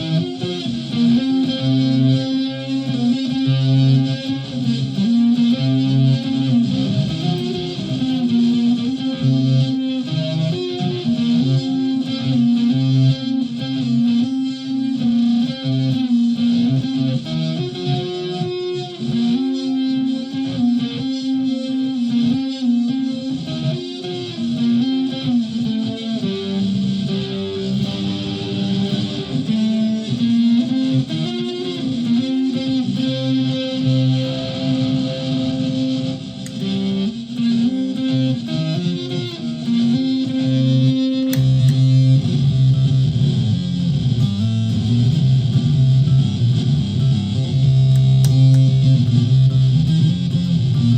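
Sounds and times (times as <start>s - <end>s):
electric ukulele picking notes: 0.0s - 50.9s.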